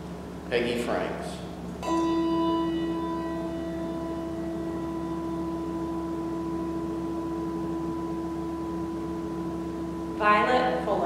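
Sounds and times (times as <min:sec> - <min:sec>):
bell ringing: 0:01.8 - 0:10.8.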